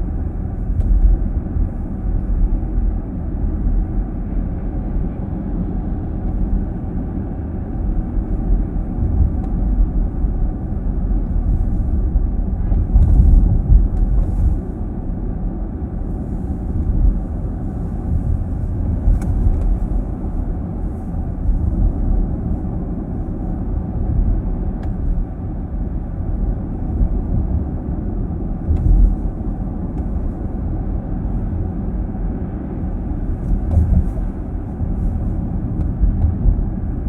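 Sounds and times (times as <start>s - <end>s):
muffled car road rumble: 0.0s - 37.0s.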